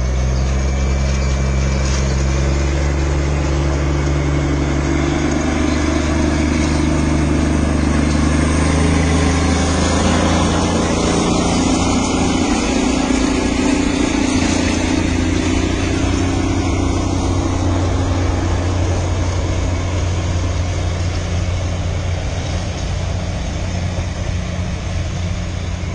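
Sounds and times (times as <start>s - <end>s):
engine running with low hum: 0.0s - 25.9s.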